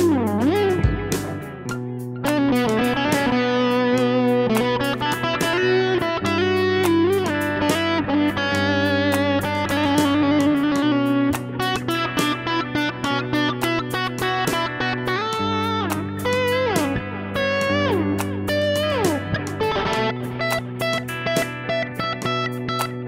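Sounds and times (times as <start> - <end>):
instrumental music with bent notes: 0.0 - 23.0.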